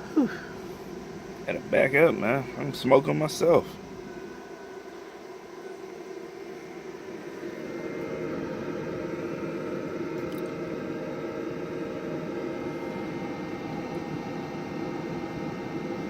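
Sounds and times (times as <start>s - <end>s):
grill fan whirring hum: 0.0s - 16.0s.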